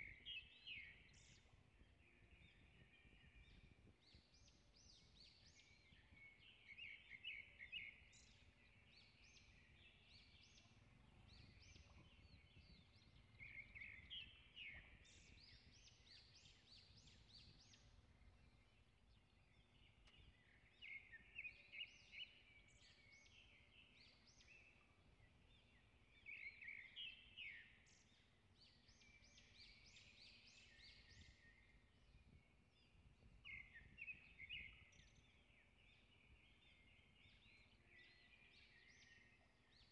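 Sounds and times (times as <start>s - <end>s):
faint birdsong: 0.0s - 39.9s.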